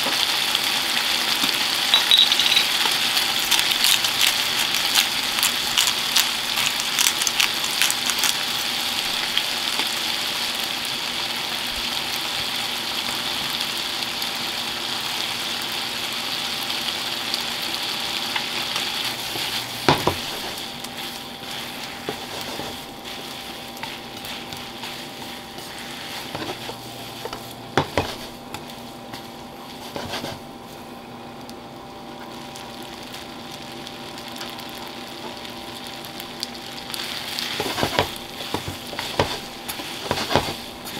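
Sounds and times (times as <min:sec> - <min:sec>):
food sizzling in a frying pan: 0:00.0 - 0:40.9.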